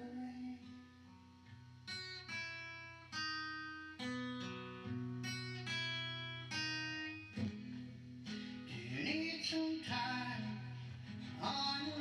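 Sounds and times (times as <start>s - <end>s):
acoustic guitar playing chords: 0.0s - 12.0s.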